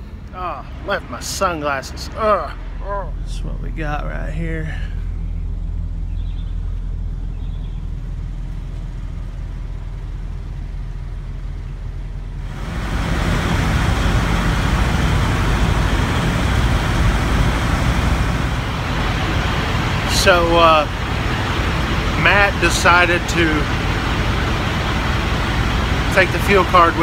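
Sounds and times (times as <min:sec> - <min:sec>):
diesel engine idling: 0:00.0 - 0:27.0
rushing engine noise: 0:00.0 - 0:27.0.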